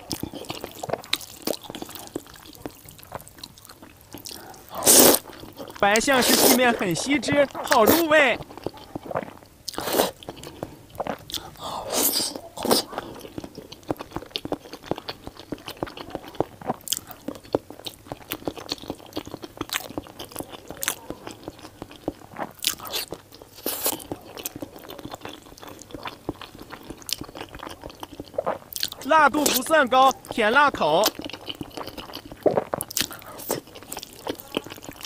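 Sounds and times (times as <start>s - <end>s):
person chewing food: 0.0s - 35.0s.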